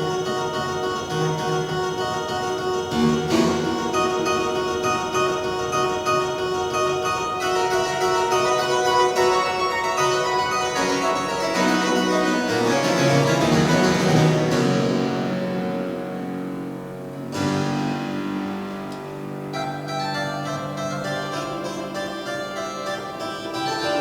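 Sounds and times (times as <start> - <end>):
pipe organ playing chords: 0.0 - 24.0.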